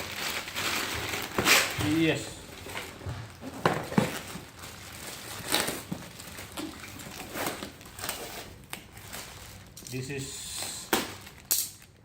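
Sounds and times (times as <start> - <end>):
plastic and cardboard rustling: 0.0 - 11.5.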